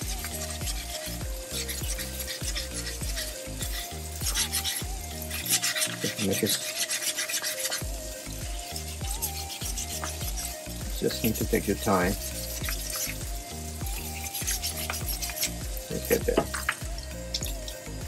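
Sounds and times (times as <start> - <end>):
sanding sponge rasping on plaster: 0.0 - 16.8.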